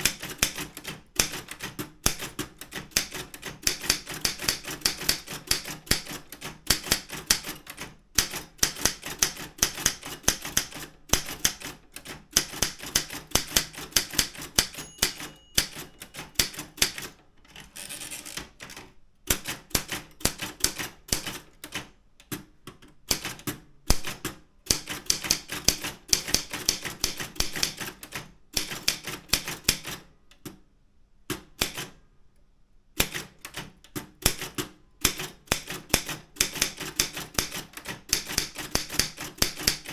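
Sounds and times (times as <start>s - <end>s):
typewriter keys clicking: 0.0s - 30.4s, 33.0s - 39.9s.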